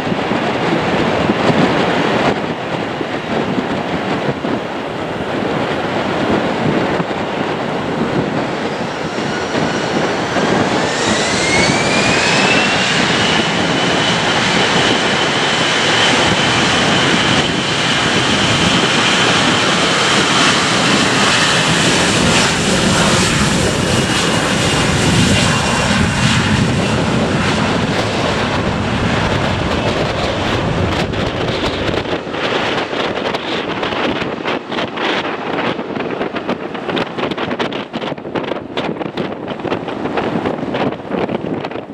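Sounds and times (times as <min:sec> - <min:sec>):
jet engine rush: 0:00.0 - 0:41.9
jet engine whine: 0:00.0 - 0:41.9.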